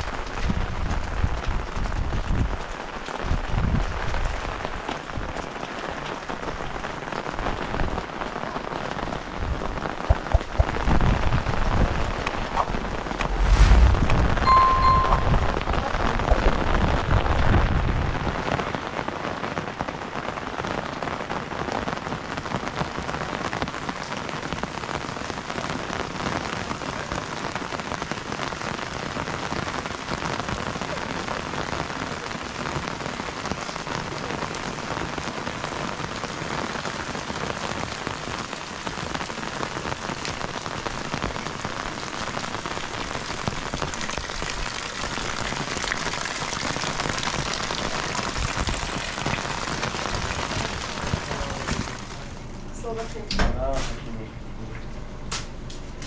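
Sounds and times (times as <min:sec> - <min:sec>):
steady rain falling: 0:00.0 - 0:53.3.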